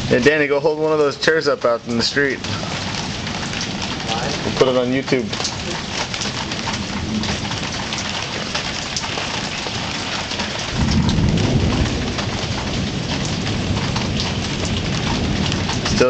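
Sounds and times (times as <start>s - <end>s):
light rain falling: 0.0s - 16.0s
rolling thunder rumble: 0.0s - 16.0s.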